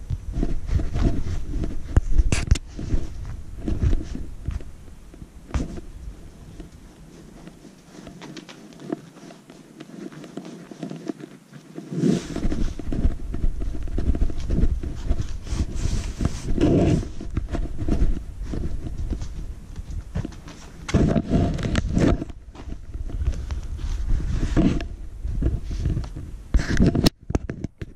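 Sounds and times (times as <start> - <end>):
camera handling rumble: 0.0 - 27.9
wand scraping and tapping straw mat: 0.1 - 27.9.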